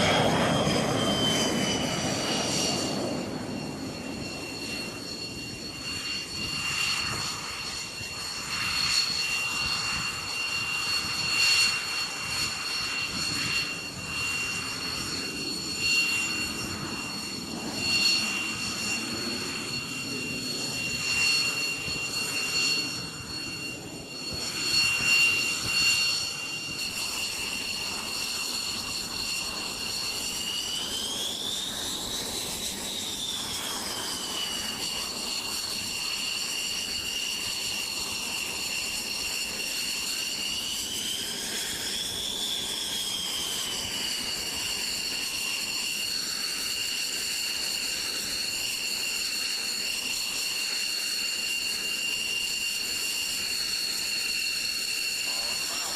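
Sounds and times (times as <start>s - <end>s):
jet engine whining: 0.0s - 55.9s.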